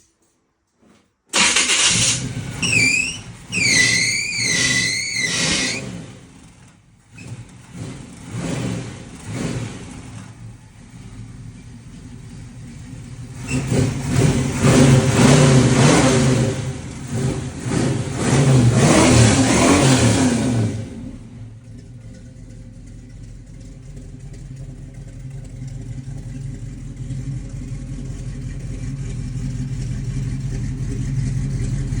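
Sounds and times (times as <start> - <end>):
car engine revving and idling: 1.4 - 32.0.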